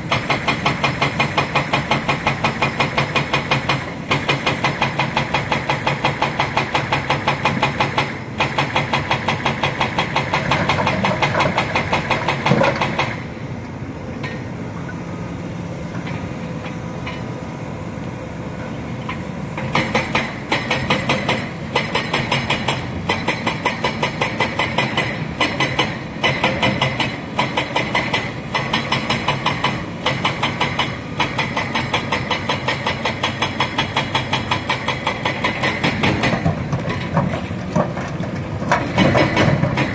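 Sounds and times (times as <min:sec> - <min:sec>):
excavator diesel engine pulsing: 0:00.0 - 0:39.9.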